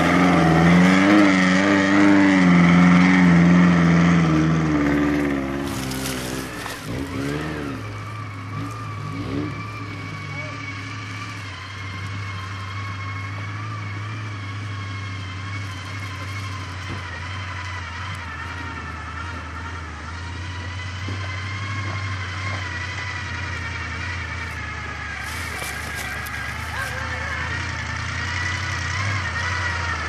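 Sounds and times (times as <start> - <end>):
off-road vehicle engine droning: 0.0 - 30.0.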